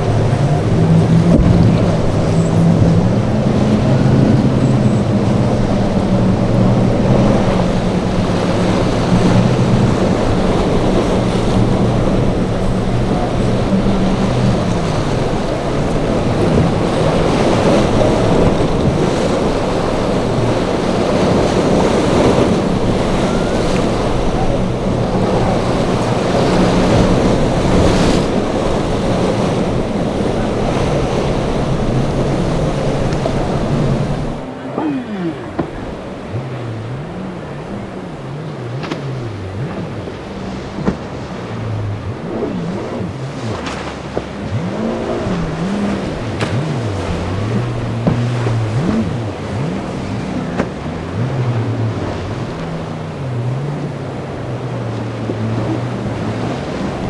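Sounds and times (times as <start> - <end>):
breaking water crashing: 0.0 - 57.0
outboard motors droning: 0.0 - 57.0
wind buffeting microphone: 0.0 - 57.0.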